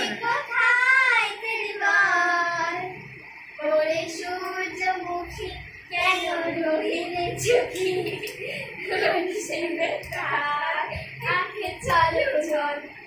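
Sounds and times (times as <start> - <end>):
girl singing unaccompanied: 0.0 - 3.0, 3.6 - 13.0.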